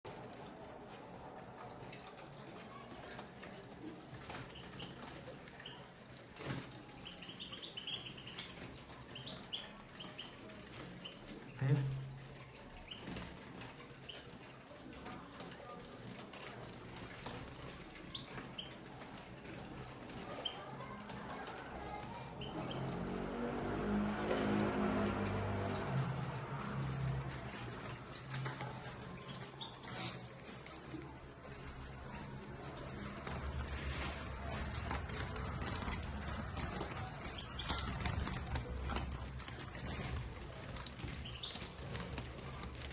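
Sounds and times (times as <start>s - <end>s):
birds fluttering and hopping: 0.1s - 42.9s
faint rustling: 0.1s - 42.9s.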